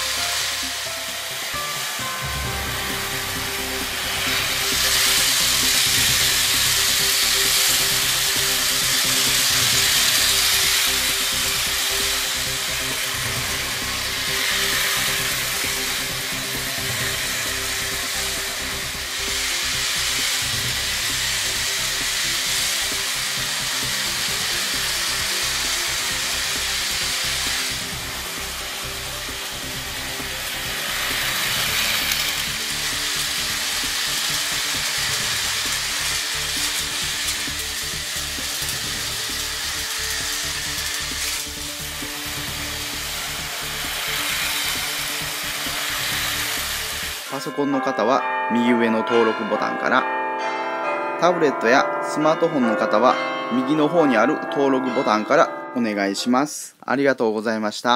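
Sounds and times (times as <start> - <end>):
wheels rattling over track joints: 0.0 - 47.4
toy train motors buzzing whine: 0.0 - 47.5.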